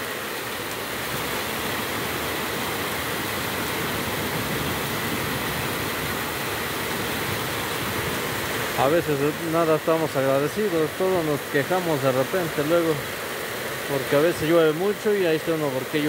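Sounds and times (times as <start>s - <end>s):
heavy rain hiss: 0.0s - 16.0s.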